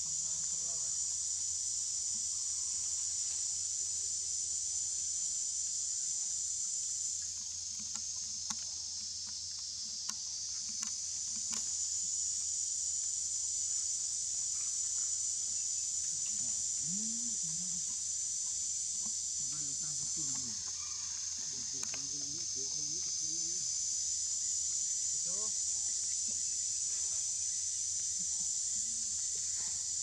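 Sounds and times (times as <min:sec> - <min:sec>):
chorus of forest insects: 0:00.0 - 0:30.0.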